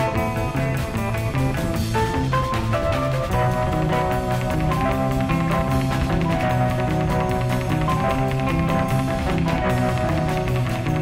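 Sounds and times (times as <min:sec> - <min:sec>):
drum kit beat: 0:00.0 - 0:11.0
held melodic notes: 0:00.0 - 0:11.0.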